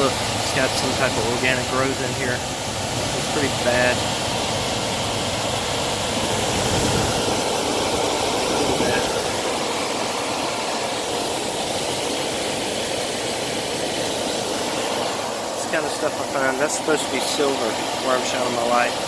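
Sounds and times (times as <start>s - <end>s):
fan and air rushing: 0.0s - 19.0s.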